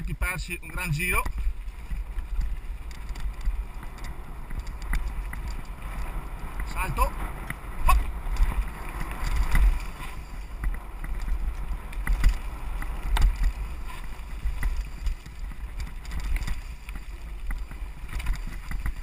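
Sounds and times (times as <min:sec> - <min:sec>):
wind buffeting microphone: 0:00.0 - 0:19.0
bike rattles and knocks: 0:00.9 - 0:19.0.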